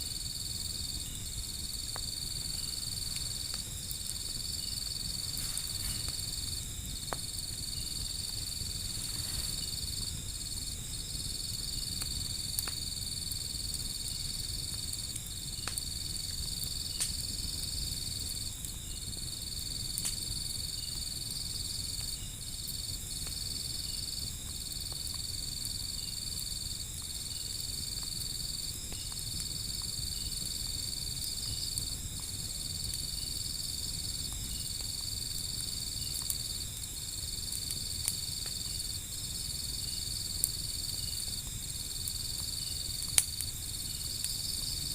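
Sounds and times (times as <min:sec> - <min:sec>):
insects trilling: 0:00.0 - 0:44.9
wood fire crackling: 0:00.0 - 0:44.9.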